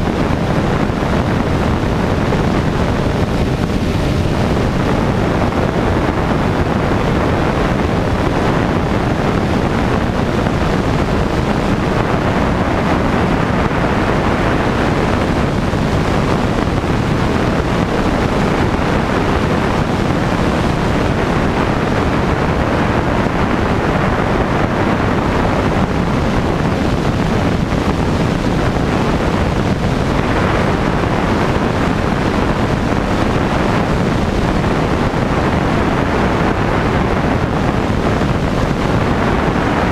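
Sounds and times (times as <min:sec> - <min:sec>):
light aircraft engine and propeller: 0:00.0 - 0:39.9
wind on microphone: 0:00.0 - 0:39.9.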